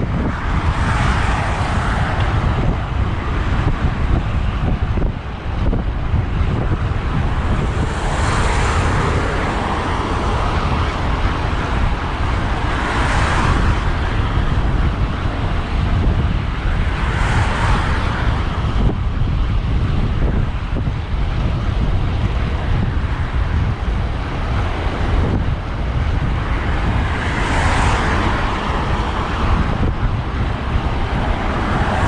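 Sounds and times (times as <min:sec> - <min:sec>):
road traffic passing: 0:00.0 - 0:32.0
wind buffeting microphone: 0:00.0 - 0:32.0.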